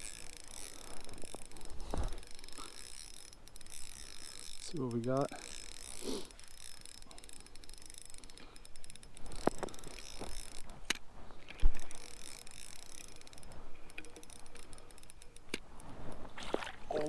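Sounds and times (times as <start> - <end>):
small clicks and knocks: 0.0 - 16.7.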